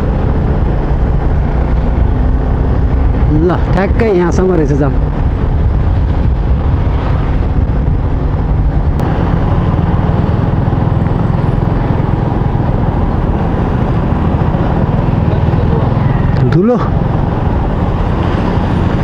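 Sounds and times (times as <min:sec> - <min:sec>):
motorcycle engine running: 0:00.0 - 0:03.4, 0:05.0 - 0:19.0.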